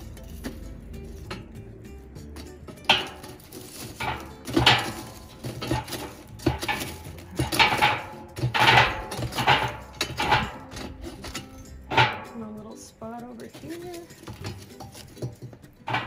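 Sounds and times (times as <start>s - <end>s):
metal clanking in a smoker: 0.0s - 16.0s.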